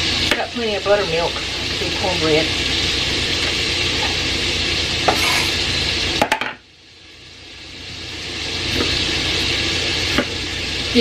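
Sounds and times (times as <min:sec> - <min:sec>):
sausage sizzling in a skillet: 0:00.0 - 0:11.0.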